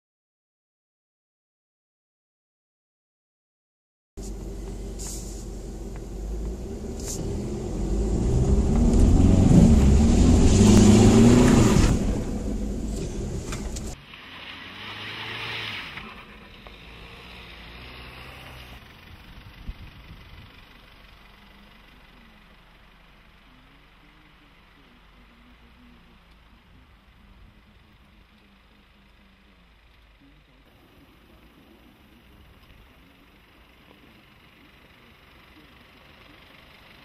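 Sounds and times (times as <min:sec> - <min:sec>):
car engine accelerating: 0:04.2 - 0:37.0.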